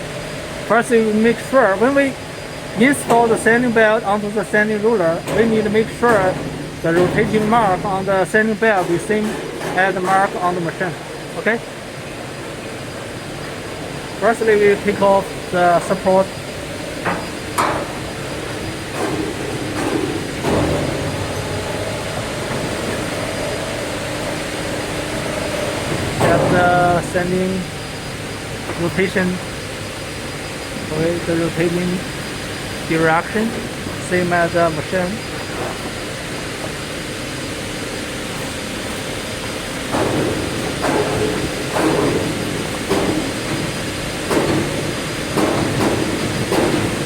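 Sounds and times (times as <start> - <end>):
factory machinery hum: 0.0 - 47.0.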